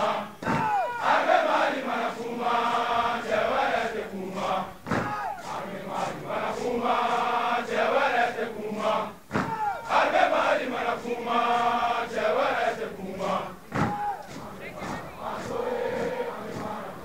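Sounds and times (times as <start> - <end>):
soldiers chanting in unison: 0.0 - 17.0.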